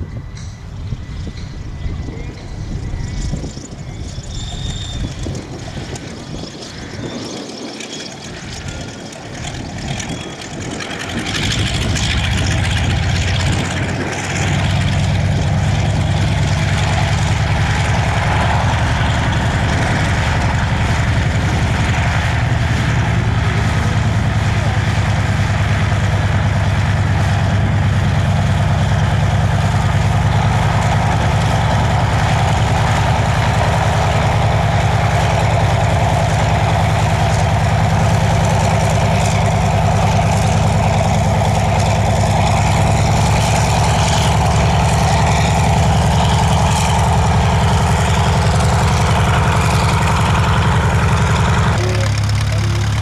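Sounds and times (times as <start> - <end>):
radial aircraft engine running: 0.0 - 53.0
small biplane engine: 0.0 - 53.0.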